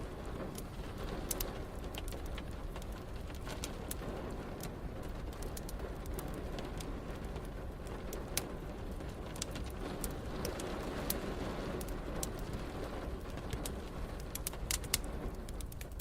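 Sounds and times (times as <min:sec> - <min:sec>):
rain hiss: 0:00.0 - 0:16.0
wood fire crackling and popping: 0:00.0 - 0:16.0.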